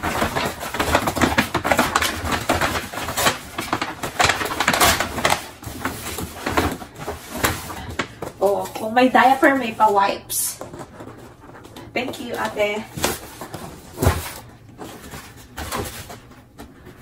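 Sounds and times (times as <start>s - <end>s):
paper bag and tissue rustling: 0.0s - 17.0s.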